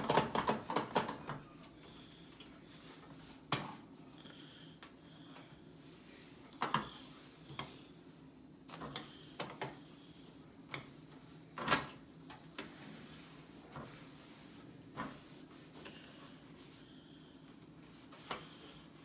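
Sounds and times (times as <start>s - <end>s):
cloth wiping stovetop: 1.4s - 4.6s, 5.2s - 19.0s.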